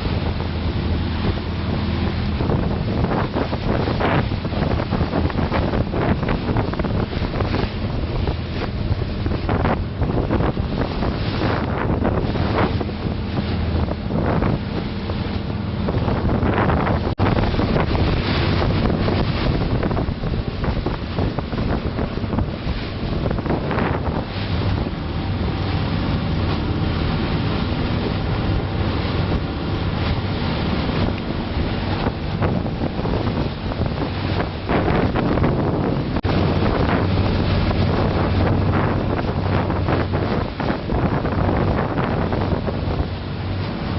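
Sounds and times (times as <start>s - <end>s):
ferry engine drone: 0.0s - 43.9s
rushing water: 0.0s - 43.9s
wind buffeting microphone: 0.0s - 43.9s.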